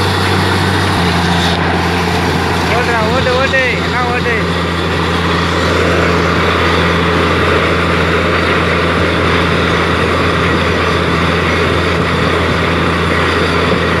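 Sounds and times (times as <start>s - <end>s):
drilling rig engine running: 0.0s - 14.0s.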